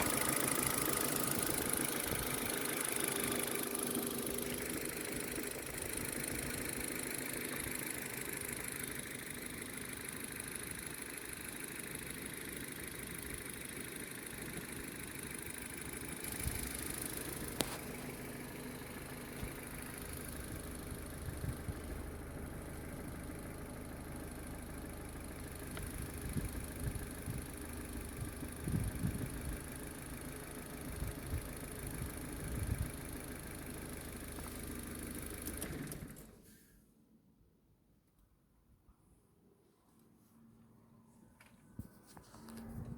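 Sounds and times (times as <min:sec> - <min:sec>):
car engine idling: 0:00.0 - 0:36.7.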